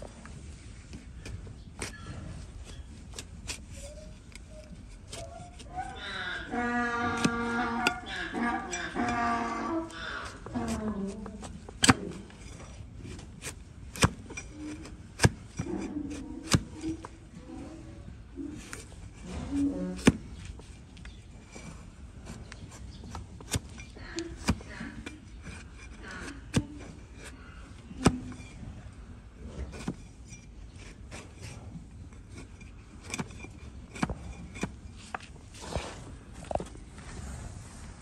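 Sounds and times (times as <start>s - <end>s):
knife slicing and scraping hoof: 0.4s - 17.8s, 18.4s - 37.3s.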